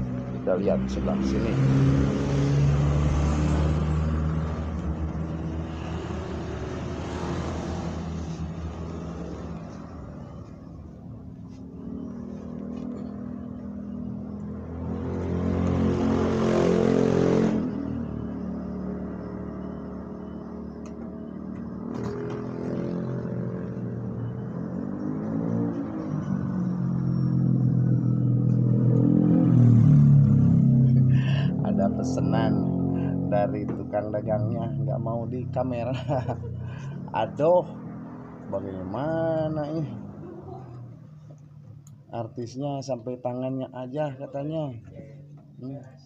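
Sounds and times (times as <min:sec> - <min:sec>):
road traffic passing: 0:00.0 - 0:46.0.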